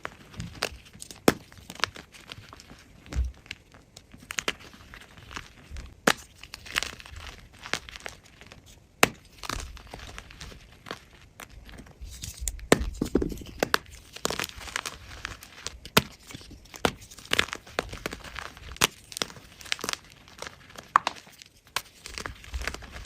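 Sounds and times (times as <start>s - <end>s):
chalk block crushed and crackling: 0.0s - 23.0s.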